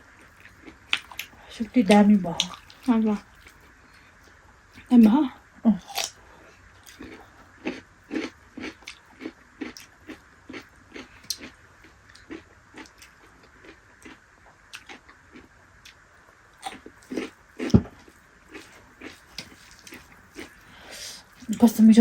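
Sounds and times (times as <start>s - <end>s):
person chewing food: 0.1s - 1.5s, 2.4s - 4.9s, 5.9s - 21.6s.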